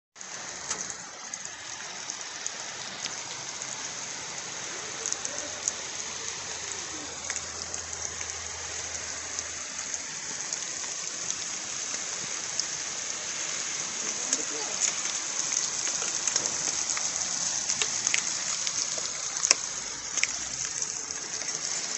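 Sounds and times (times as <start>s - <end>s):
rain falling steadily: 0.2s - 21.9s
raindrops ticking close by: 0.2s - 21.9s.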